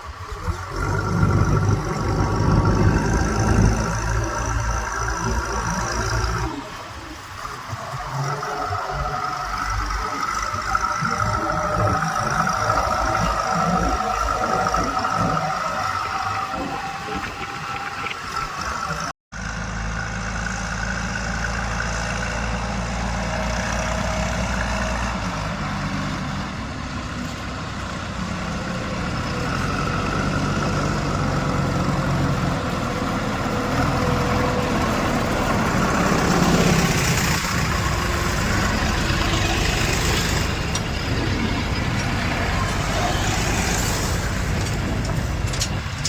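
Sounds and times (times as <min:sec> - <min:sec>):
heavy diesel engine running: 0:00.0 - 0:18.2, 0:19.3 - 0:46.0.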